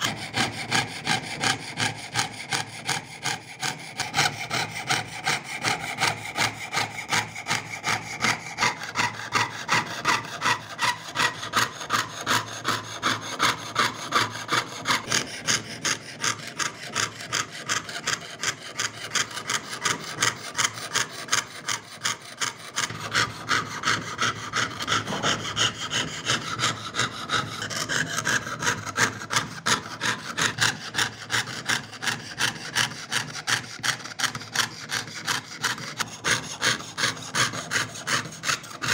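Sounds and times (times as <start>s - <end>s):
saw cutting thin metal sheet: 0.0s - 38.9s.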